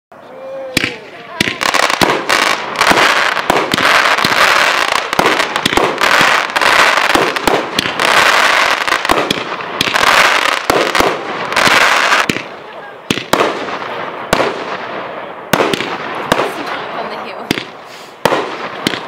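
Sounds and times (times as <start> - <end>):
fireworks bursting with sharp bangs: 0.7 - 19.0
fireworks crackling hiss: 0.8 - 13.8, 15.6 - 19.0.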